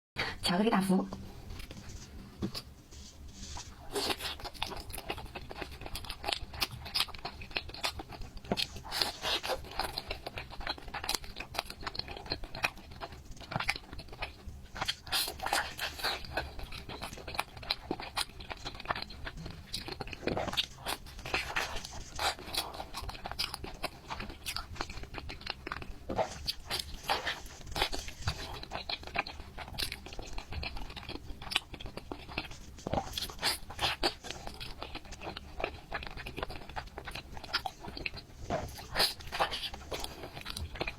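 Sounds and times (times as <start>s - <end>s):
person chewing cake: 1.4s - 40.9s.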